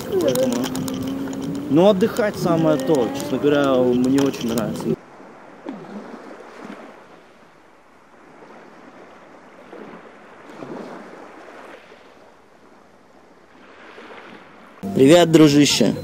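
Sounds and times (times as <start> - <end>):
small waves lapping on sand: 0.0 - 14.8.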